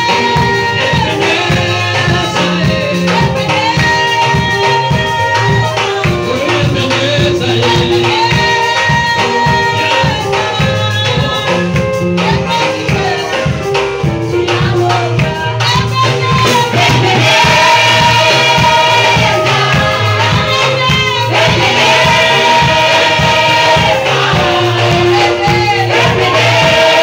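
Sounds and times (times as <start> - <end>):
amplified band music: 0.0 - 27.0
group of voices singing: 0.0 - 27.0
lead singer on microphone: 0.0 - 27.0.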